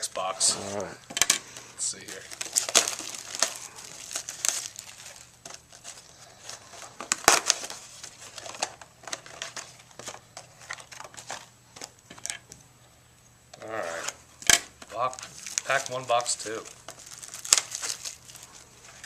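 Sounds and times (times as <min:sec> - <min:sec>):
plastic wrapping crinkling and tearing: 0:01.9 - 0:12.3, 0:13.8 - 0:19.0.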